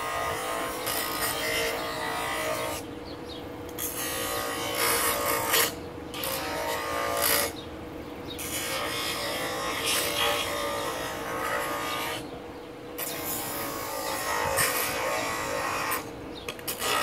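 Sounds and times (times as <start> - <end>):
bench grinder humming: 0.0 - 2.9, 3.7 - 7.6, 8.3 - 12.3, 13.0 - 17.0
wood grinding on wheel: 0.0 - 2.9, 3.8 - 7.6, 8.4 - 12.3, 13.0 - 17.0.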